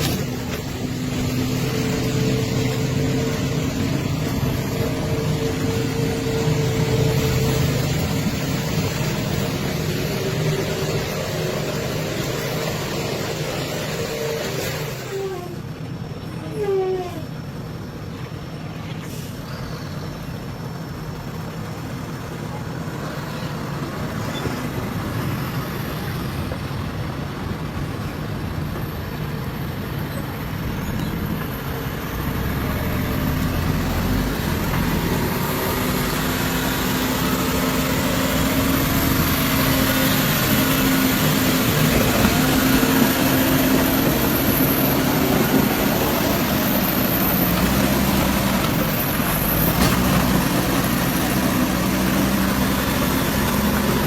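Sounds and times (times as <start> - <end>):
heavy truck engine running: 0.0 - 54.0.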